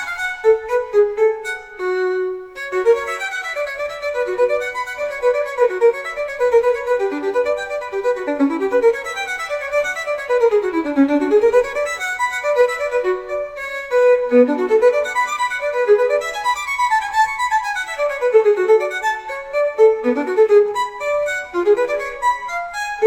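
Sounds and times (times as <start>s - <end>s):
baroque violin music: 0.0s - 23.0s.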